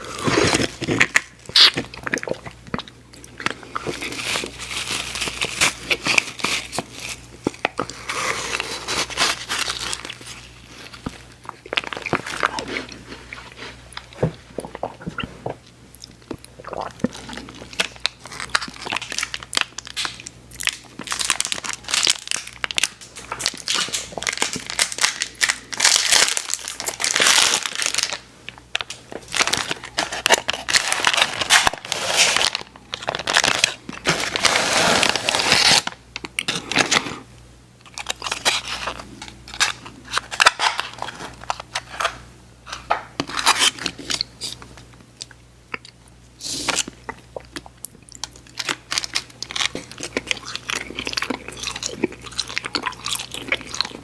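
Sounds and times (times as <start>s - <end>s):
candy wrapper crinkling and tearing: 0.0s - 14.1s, 17.0s - 37.1s, 37.8s - 44.6s, 46.4s - 54.0s.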